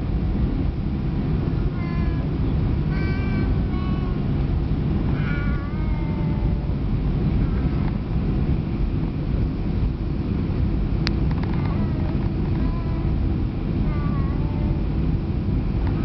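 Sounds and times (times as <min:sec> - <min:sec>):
low rumble of engines and wheels: 0:00.0 - 0:16.0.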